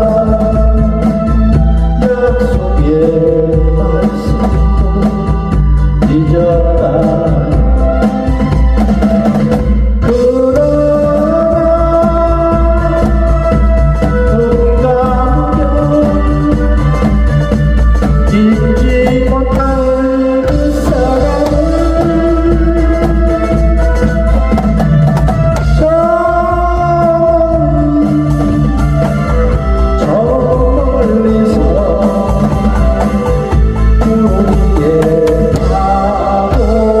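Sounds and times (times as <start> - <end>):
man singing: 0.0 - 8.8, 10.0 - 37.0
drum kit playing: 0.0 - 37.0
recorded pop song: 0.0 - 37.0.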